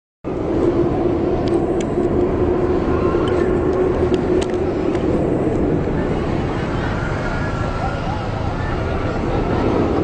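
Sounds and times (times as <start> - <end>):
road traffic rumble: 0.3 - 10.0
vehicle engine droning: 0.3 - 10.0.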